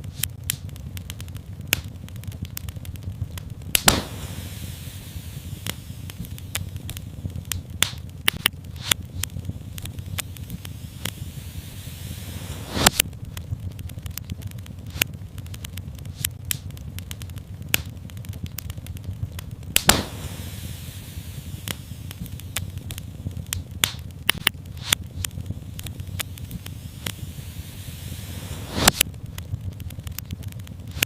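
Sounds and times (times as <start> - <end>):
fire popping: 0.0 - 31.0
low rumble of flames: 0.0 - 31.0
wood fire crackling: 0.0 - 31.0.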